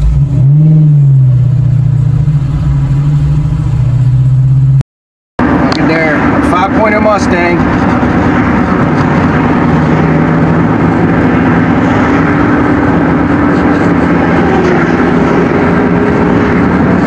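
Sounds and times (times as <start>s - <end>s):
car engine drone: 0.0s - 4.8s, 5.4s - 17.0s
road noise rushing: 0.0s - 4.8s, 5.4s - 17.0s.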